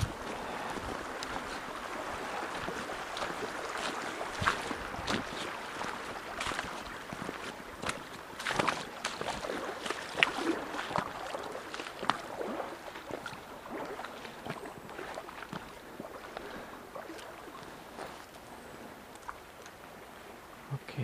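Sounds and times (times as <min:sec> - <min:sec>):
stream water splashing around steps: 0:00.0 - 0:21.0.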